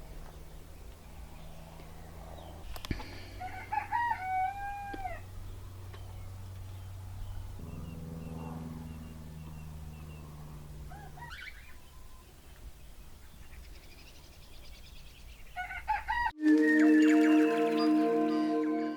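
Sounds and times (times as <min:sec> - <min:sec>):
low steady hum: 0:00.0 - 0:15.6
birds calling: 0:00.0 - 0:16.3.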